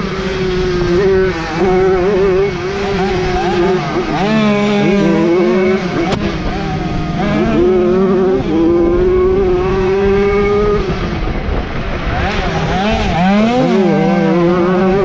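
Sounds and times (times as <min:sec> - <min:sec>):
two-stroke engines revving: 0:00.0 - 0:15.0.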